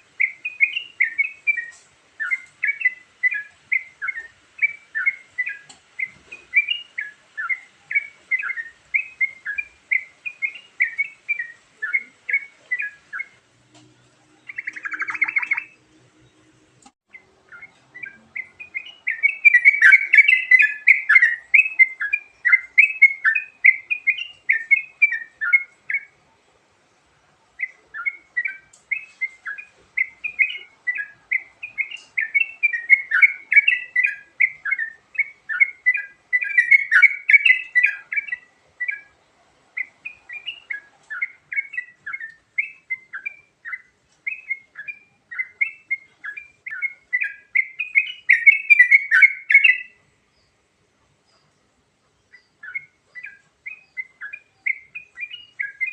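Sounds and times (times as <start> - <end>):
bulbul chattering song: 0.0 - 55.9.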